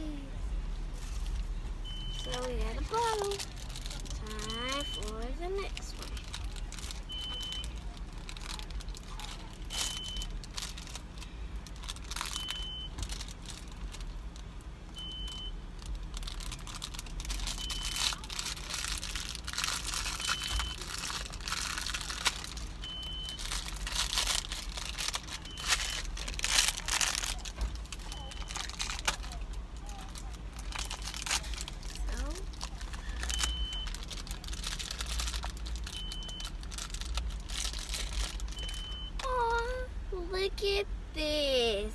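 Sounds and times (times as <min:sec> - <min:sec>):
foil wrapper crinkling and tearing: 0:02.2 - 0:14.4, 0:15.3 - 0:39.0.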